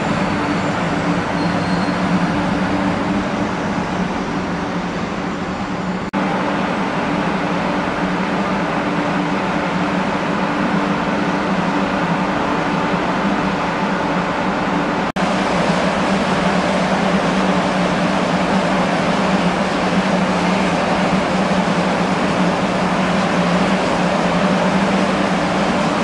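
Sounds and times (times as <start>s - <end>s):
high-speed train rushing: 0.0s - 26.0s.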